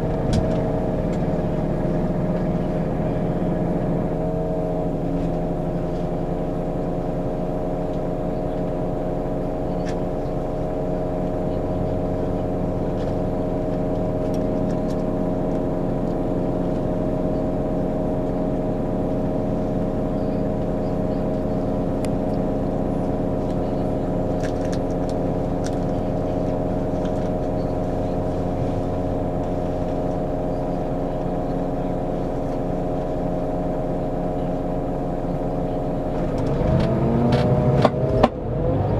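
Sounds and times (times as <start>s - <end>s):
coach diesel engine droning: 0.0s - 38.9s.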